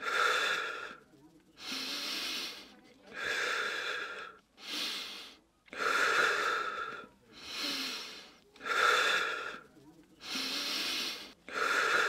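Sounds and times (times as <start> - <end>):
person breathing: 0.0 - 12.0.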